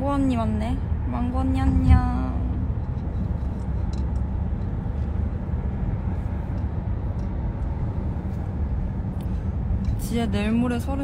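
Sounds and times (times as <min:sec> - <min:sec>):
vehicle rumble inside cabin: 0:00.0 - 0:11.0.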